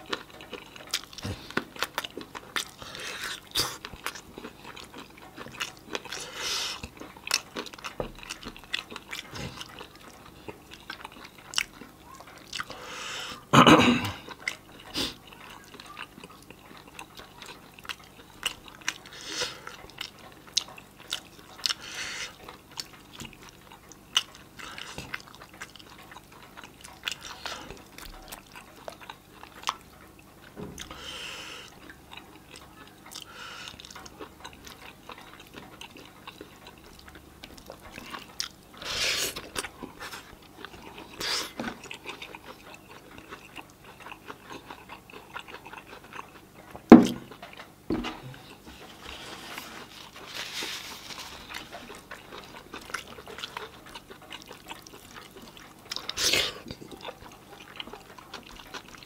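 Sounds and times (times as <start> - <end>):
man chewing food: 0.0 - 59.0.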